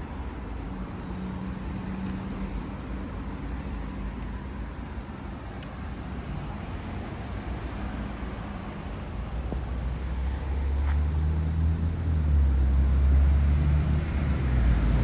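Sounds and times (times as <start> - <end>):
road traffic rumble: 0.0 - 15.0
vehicle engine humming nearby: 0.0 - 15.0.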